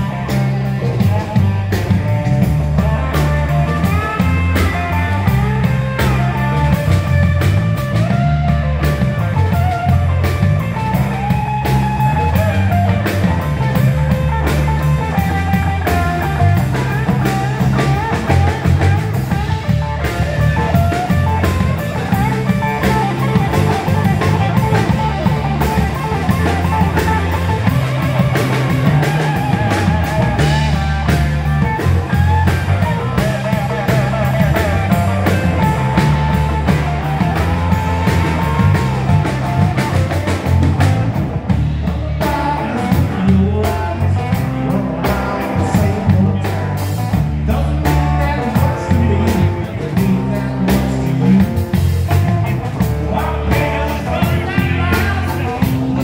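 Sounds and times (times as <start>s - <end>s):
bass line: 0.0s - 56.0s
drum kit: 0.0s - 56.0s
electric guitar lines: 0.0s - 56.0s.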